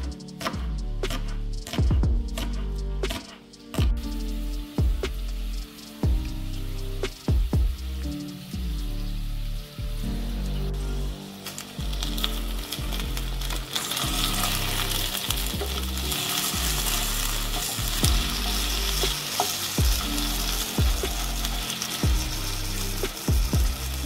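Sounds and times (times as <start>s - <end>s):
potatoes sizzling in frying pan: 3.9s - 24.0s.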